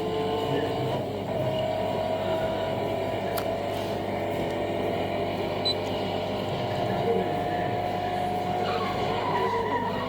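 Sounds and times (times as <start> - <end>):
car engine drone: 0.0 - 10.0.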